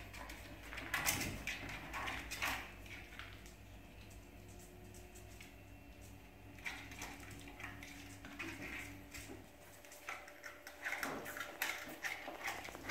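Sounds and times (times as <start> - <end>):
puppies moving and playing: 0.0 - 12.9.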